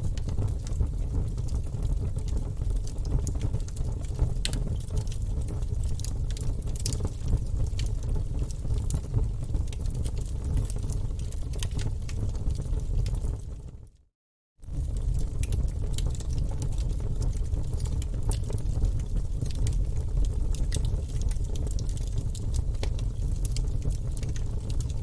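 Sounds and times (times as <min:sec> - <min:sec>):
fire rumbling: 0:00.0 - 0:13.7, 0:14.6 - 0:25.0
logs crackling and popping: 0:00.1 - 0:13.5, 0:14.7 - 0:25.0.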